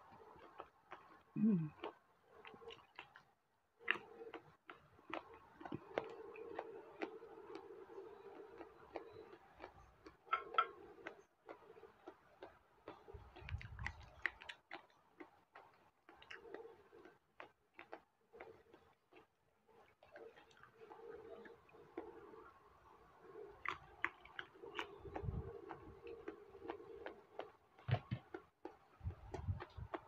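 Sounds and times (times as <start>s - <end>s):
person chewing with mouth clicks: 0.1s - 22.5s, 23.4s - 30.0s.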